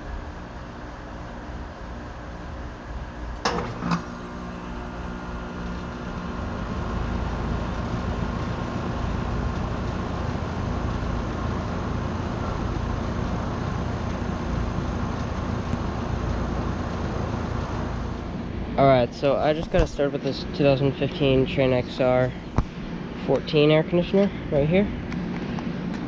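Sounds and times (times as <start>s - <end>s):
air conditioner compressor hum: 0.0s - 26.0s
condenser fan air rushing: 0.0s - 26.0s.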